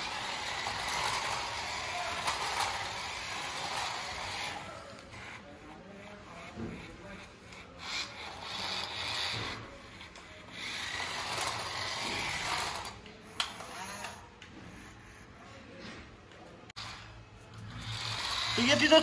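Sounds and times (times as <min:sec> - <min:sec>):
toy car motor whirring: 0:00.0 - 0:14.9, 0:16.8 - 0:19.0.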